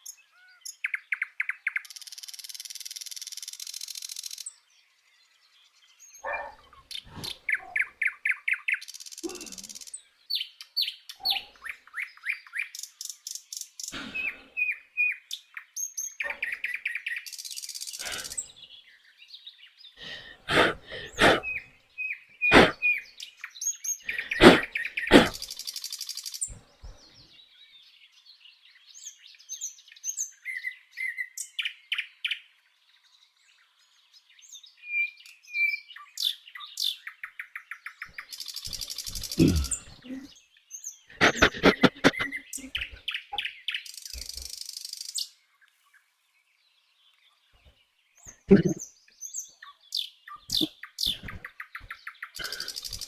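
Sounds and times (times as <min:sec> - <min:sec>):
birds chirping trills: 0:00.0 - 0:53.0.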